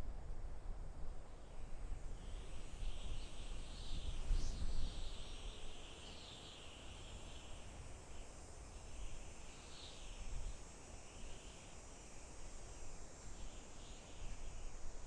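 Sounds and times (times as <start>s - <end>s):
wind rustling forest trees: 0.0s - 15.0s.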